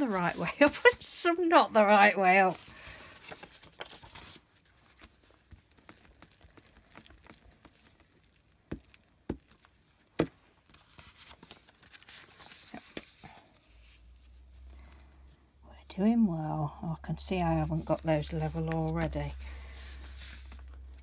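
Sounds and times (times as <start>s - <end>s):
paper envelopes rustling: 0.0s - 15.1s, 17.7s - 21.0s.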